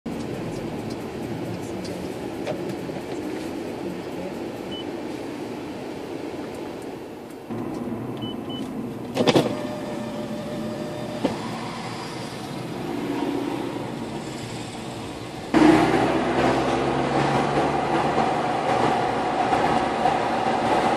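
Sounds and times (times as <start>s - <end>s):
car engine and road noise: 0.1s - 20.9s.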